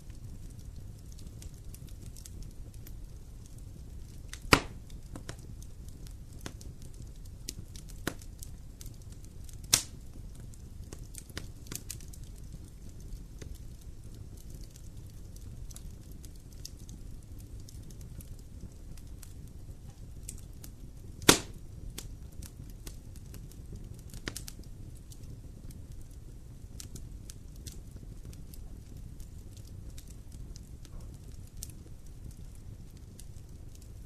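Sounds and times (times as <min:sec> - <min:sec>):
campfire crackling: 0:00.0 - 0:34.0
sharp pops of fire: 0:00.0 - 0:34.0.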